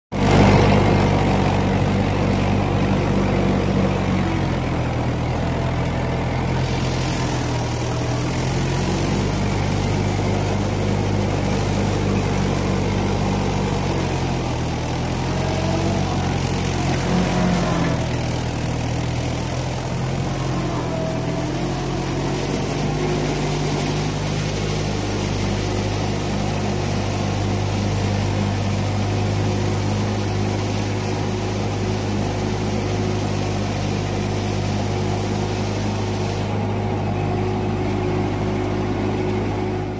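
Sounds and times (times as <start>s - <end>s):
tractor diesel engine idling: 0.1s - 39.9s.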